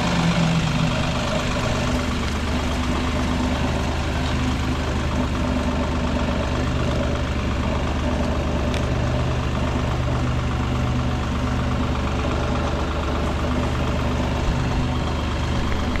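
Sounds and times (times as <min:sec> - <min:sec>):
stump grinder engine running: 0:00.0 - 0:16.0.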